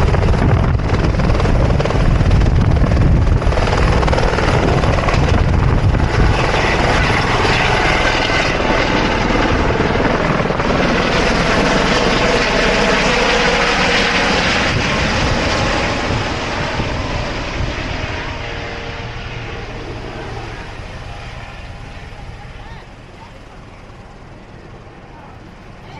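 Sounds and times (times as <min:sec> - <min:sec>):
helicopter rotor and turbine: 0:00.0 - 0:25.9.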